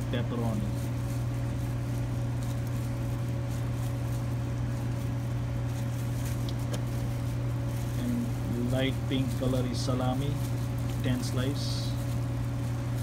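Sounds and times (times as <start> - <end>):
gloved hands rustling: 0.0 - 13.0
low machine hum: 0.0 - 13.0.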